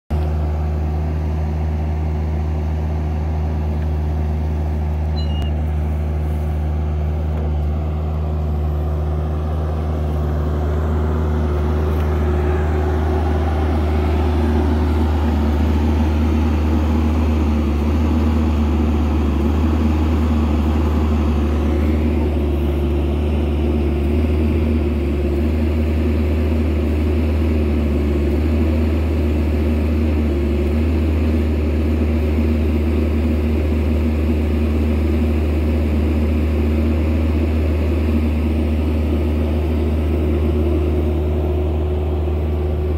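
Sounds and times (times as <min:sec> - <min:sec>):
excavator diesel engine running: 0:00.1 - 0:42.9.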